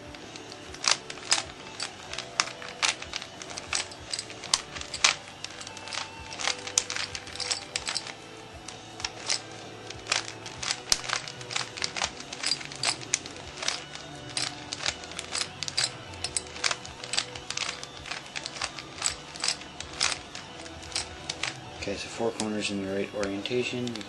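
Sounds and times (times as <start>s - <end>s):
faint music: 0.0s - 24.0s
plastic cube clicking: 0.1s - 21.7s.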